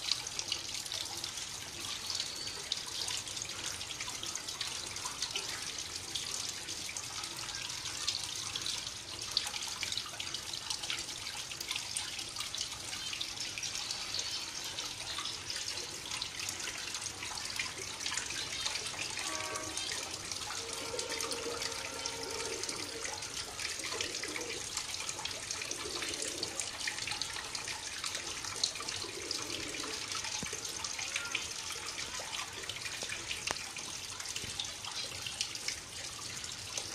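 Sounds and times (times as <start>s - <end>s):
water trickling over rocks: 0.0s - 36.9s.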